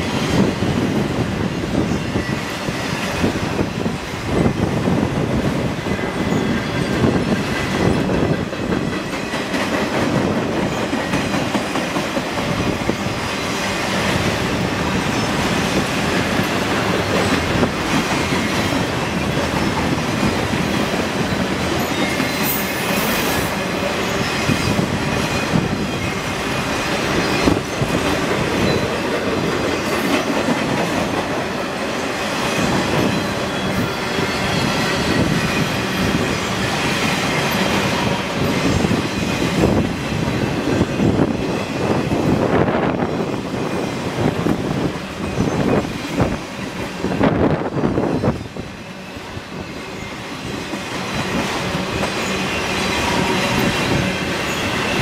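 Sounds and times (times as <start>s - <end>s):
rail-joint clatter: 0.0s - 48.6s
train wheels rumbling: 0.0s - 55.0s.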